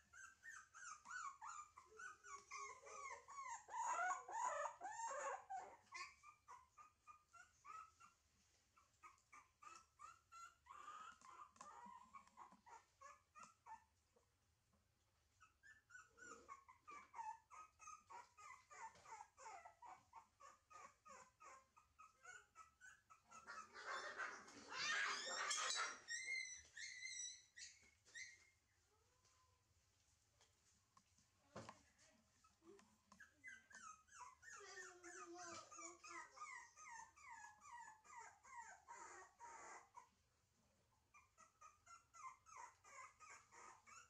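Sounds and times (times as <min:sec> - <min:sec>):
puppy whimpering: 0:00.0 - 0:14.0, 0:15.3 - 0:28.6, 0:32.4 - 0:40.2, 0:41.1 - 0:44.0.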